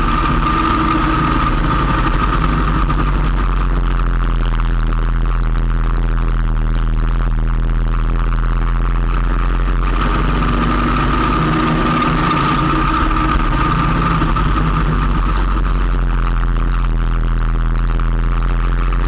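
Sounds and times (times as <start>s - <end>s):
high whine: 0.0s - 19.0s
motorcycle engine running: 0.0s - 19.0s.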